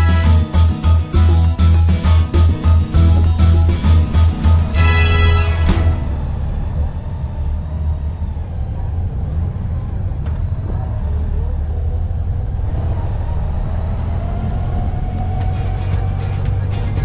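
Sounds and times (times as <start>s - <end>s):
motorcycle engine hum: 0.0s - 17.0s
wind rumble: 2.5s - 17.0s.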